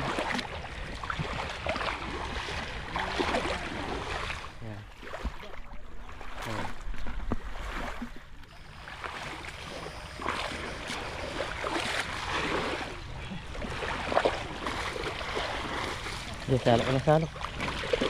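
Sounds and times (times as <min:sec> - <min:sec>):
muddy water splashing: 0:00.0 - 0:18.0.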